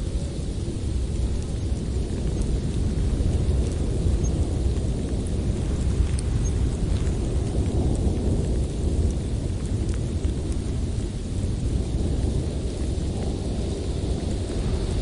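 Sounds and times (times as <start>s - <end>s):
blizzard wind blowing: 0.0s - 15.0s
faint ticks: 1.2s - 15.0s.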